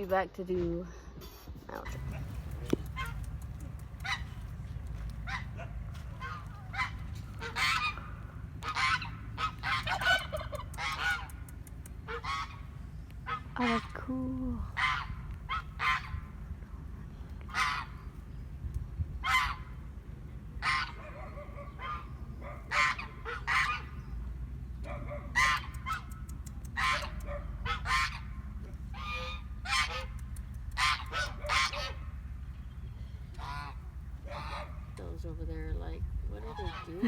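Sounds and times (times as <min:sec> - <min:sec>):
steady low rumble: 0:00.0 - 0:37.0
geese honking: 0:01.8 - 0:16.5, 0:17.4 - 0:18.1, 0:19.2 - 0:24.2, 0:24.8 - 0:32.5, 0:33.3 - 0:35.1, 0:36.4 - 0:37.0.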